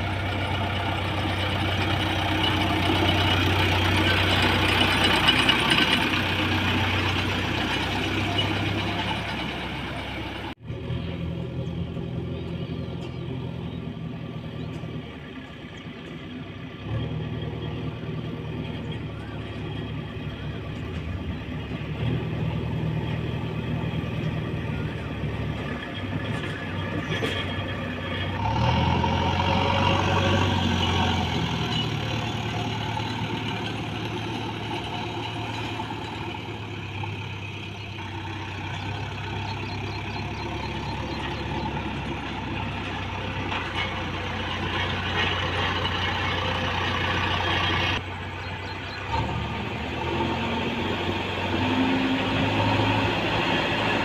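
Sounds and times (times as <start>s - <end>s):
diesel engine under varying load: 0.0s - 54.0s.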